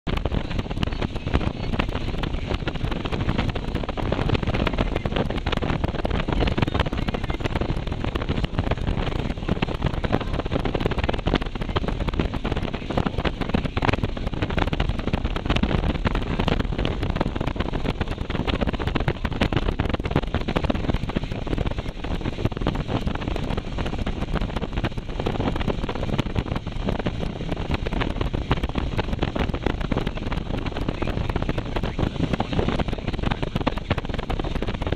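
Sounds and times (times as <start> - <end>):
road noise: 0.0 - 34.9
wind buffeting microphone: 0.0 - 34.9
motorcycle engine: 0.1 - 34.9.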